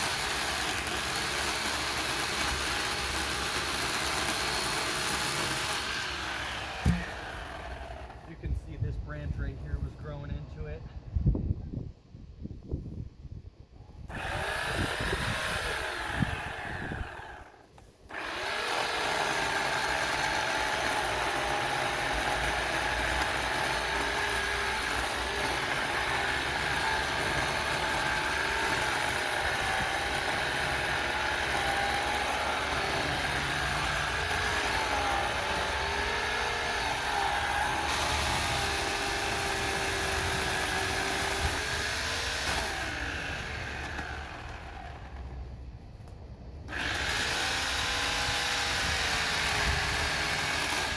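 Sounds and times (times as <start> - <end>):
chainsaw running: 0.0 - 8.9, 14.1 - 45.5, 46.7 - 50.9.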